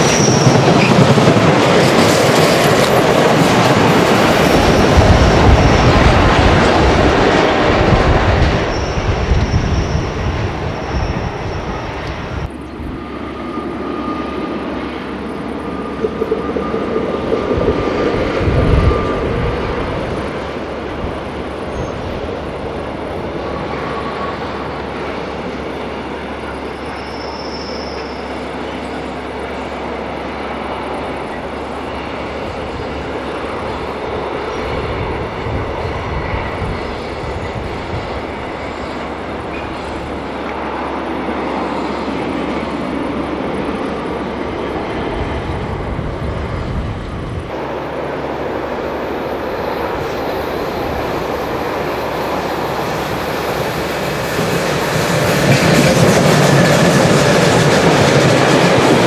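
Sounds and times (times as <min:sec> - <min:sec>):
freight train rumbling on rails: 0:00.0 - 0:59.0
loud passing train: 0:00.0 - 0:59.0.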